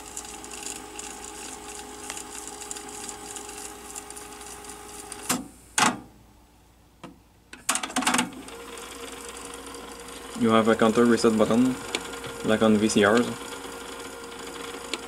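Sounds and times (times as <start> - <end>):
cassette deck rewinding tape: 0.0 - 5.4, 8.0 - 15.0.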